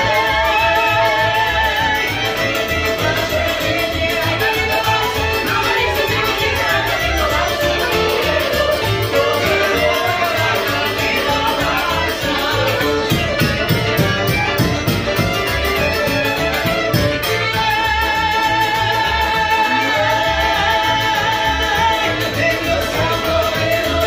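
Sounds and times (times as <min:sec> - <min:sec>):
woman singing: 0:00.0 - 0:14.1, 0:17.4 - 0:24.0
accordion: 0:00.0 - 0:24.0
double bass: 0:00.0 - 0:24.0
fiddle: 0:00.0 - 0:24.0
hand drum steady beat: 0:00.0 - 0:24.0.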